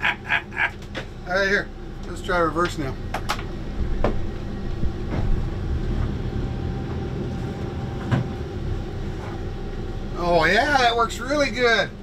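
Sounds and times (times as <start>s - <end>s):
boat engines rumbling: 0.0s - 12.0s.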